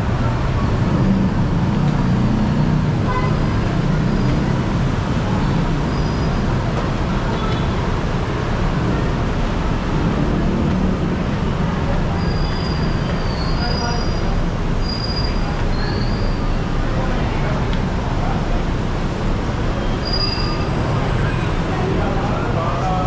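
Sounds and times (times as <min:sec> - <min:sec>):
city traffic noise: 0:00.0 - 0:23.0.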